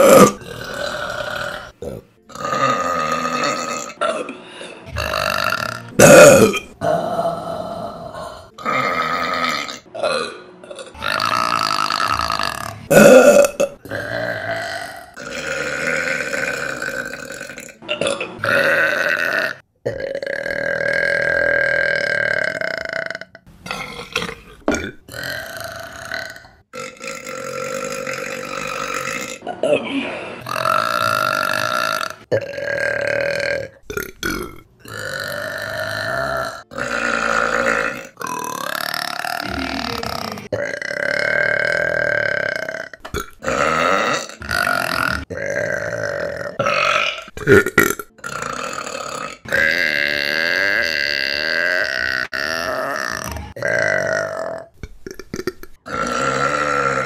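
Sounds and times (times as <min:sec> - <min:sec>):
women belching: 0:00.0 - 0:04.3, 0:05.0 - 0:57.0.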